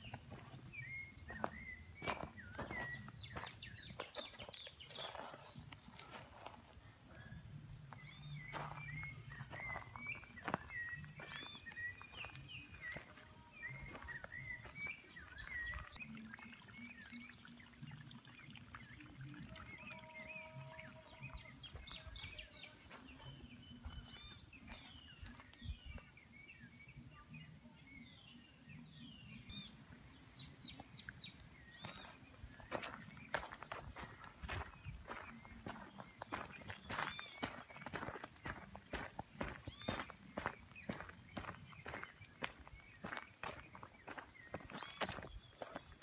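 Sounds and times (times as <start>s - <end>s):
birds chirping and whistling: 0.0s - 29.8s, 30.4s - 46.0s.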